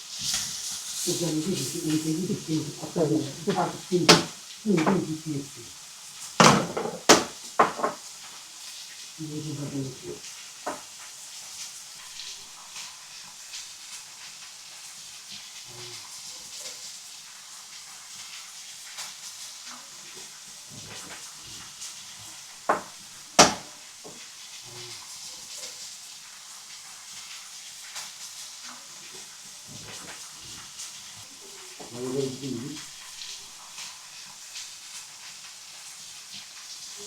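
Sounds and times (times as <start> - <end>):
meat sizzling: 0.0 - 37.0.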